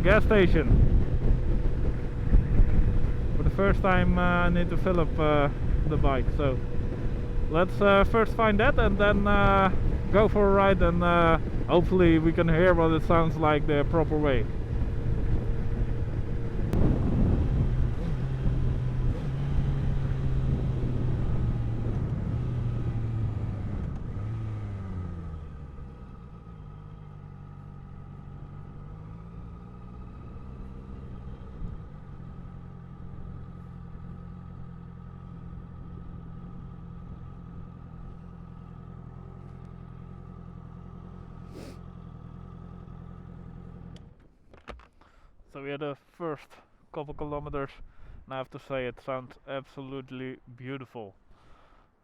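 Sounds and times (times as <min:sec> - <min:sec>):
engine revving: 0:00.0 - 0:44.0
motorcycle engine: 0:00.0 - 0:45.2.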